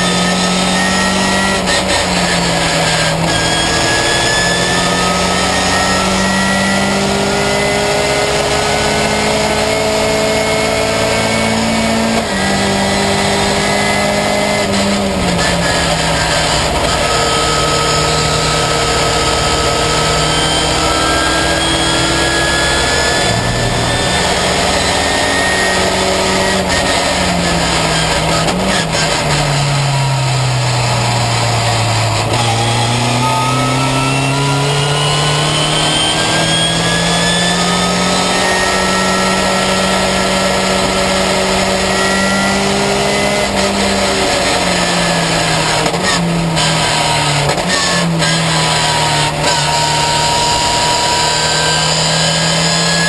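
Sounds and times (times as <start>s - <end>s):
race car engine revving: 0.0s - 53.0s
wind and road noise: 0.0s - 53.0s.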